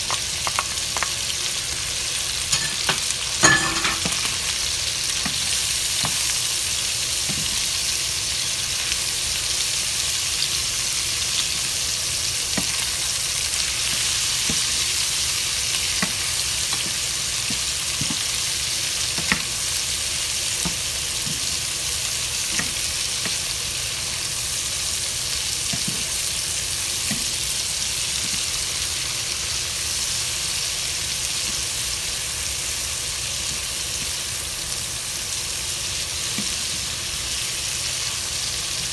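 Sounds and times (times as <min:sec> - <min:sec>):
beef and onions sizzling in pan: 0:00.0 - 0:38.9.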